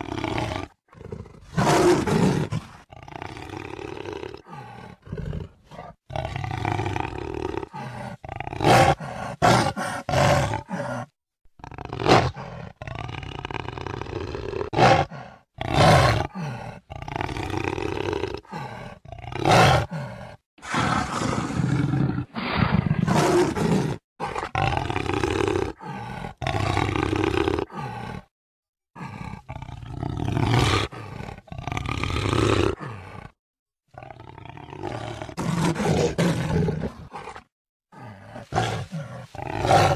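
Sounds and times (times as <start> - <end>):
jaguar roaring: 0.0 - 11.1, 11.7 - 28.3, 29.0 - 33.4, 34.0 - 39.9.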